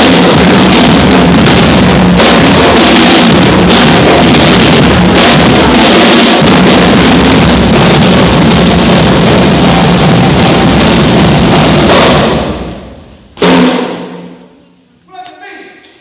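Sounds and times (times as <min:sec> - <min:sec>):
marching drums playing: 0:00.0 - 0:14.4
loud drum hit ringing out: 0:00.0 - 0:14.5.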